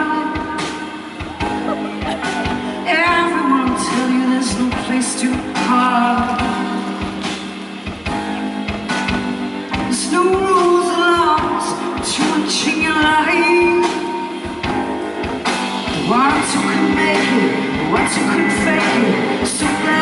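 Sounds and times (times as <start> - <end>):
woman singing into microphone: 0.0 - 7.2, 9.7 - 14.4, 15.9 - 20.0
band accompaniment: 0.0 - 20.0.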